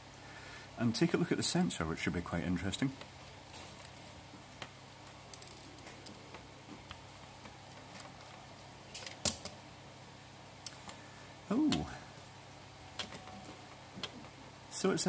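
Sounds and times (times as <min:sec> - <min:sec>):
faint fan hum: 0:00.0 - 0:15.0.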